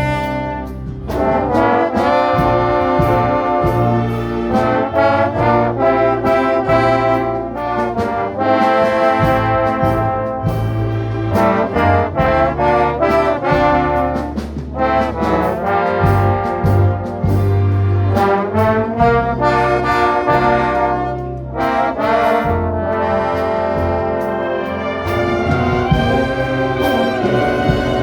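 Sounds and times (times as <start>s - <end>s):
orchestra with brass melody: 0.0s - 28.0s
sustained bass: 0.0s - 28.0s.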